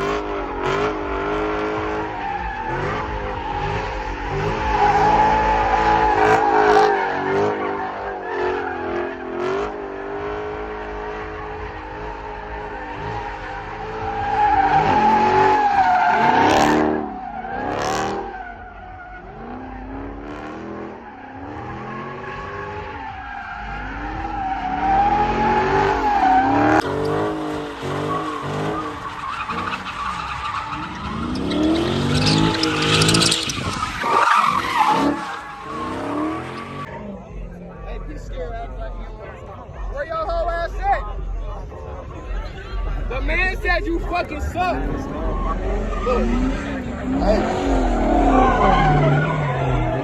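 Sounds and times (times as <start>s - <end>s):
car engine revving: 0.0s - 50.0s
tires squealing: 0.0s - 50.0s.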